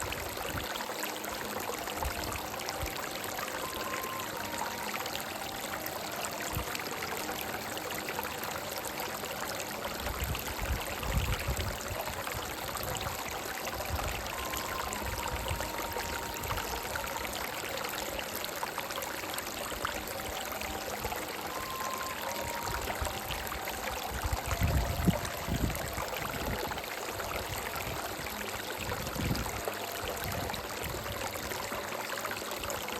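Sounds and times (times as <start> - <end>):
soft melody of held notes: 0.0 - 32.9
stream rushing and trickling: 0.0 - 32.9.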